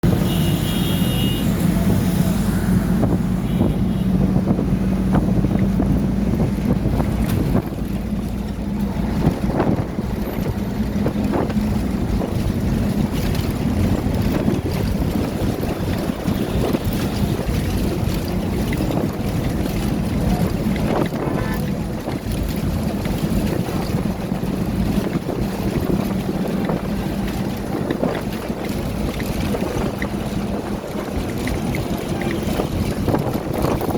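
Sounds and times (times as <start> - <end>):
wind rumble on microphone: 0.0 - 33.9.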